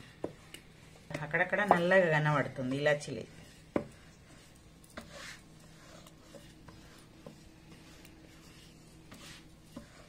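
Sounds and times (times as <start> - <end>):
rolling pin rubbing on dough: 0.0 - 10.0.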